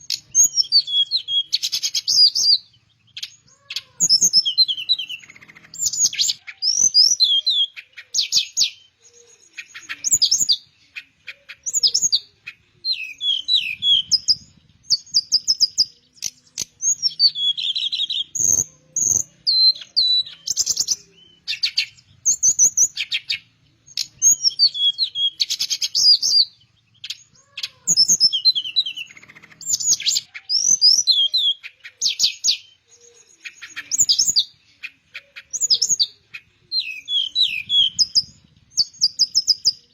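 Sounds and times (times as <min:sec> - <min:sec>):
flycatcher singing warbling phrases: 0:00.0 - 0:39.9.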